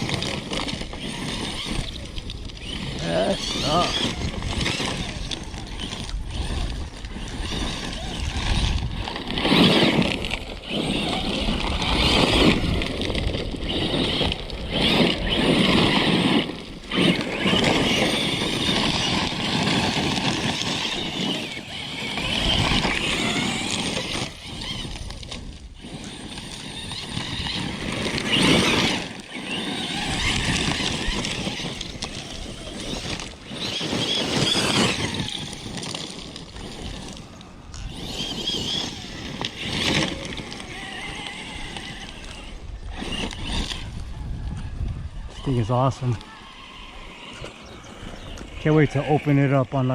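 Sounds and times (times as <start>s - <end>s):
electric rc truck driving on dirt: 0.0s - 49.9s.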